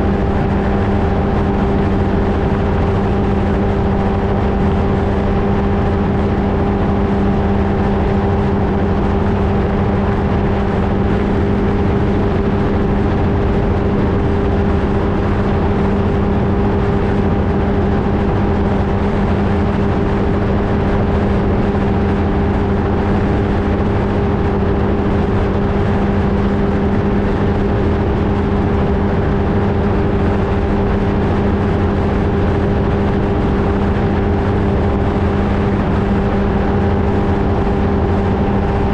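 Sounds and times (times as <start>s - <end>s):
aircraft engine and propeller drone: 0.0s - 38.9s
wind rumble on microphone: 0.0s - 38.9s.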